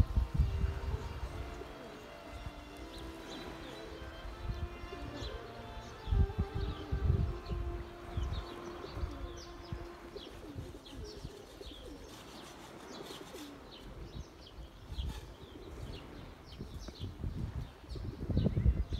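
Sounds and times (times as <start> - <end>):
pigeons cooing: 0.0 - 16.2
small birds chirping: 0.0 - 18.9
wind rumble on microphone: 0.0 - 18.9.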